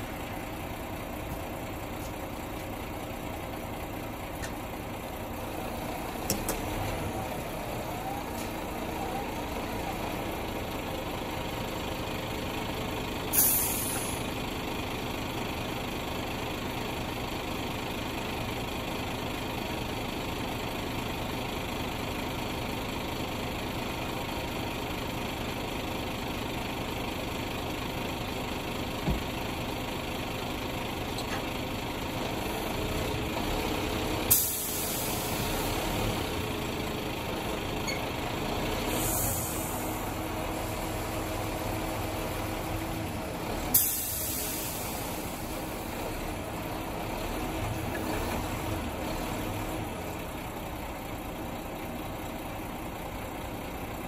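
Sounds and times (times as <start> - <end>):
lorry engine idling: 0.0 - 54.0.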